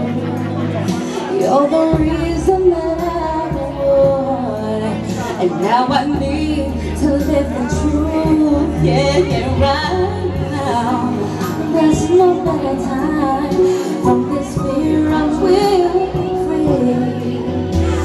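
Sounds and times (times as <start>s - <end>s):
backing music: 0.0s - 18.0s
woman singing into microphone: 0.0s - 18.0s.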